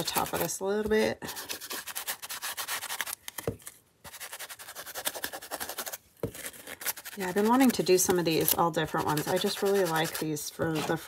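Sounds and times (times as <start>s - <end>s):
tool scrubbing on cardboard: 0.0s - 3.1s, 4.1s - 11.0s.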